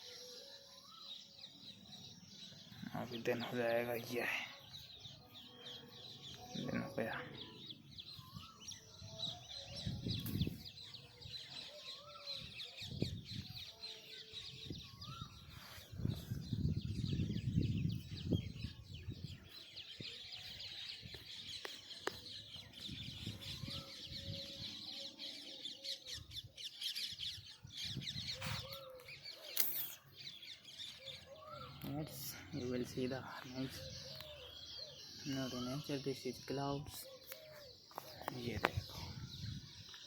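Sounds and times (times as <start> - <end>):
birds chirping in chorus: 0.0 - 40.0.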